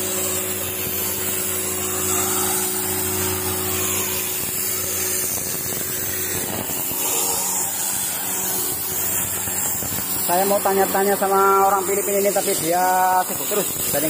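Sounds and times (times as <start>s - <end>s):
pressure washer machine hum: 0.0s - 14.0s
water jet hissing: 0.0s - 14.0s.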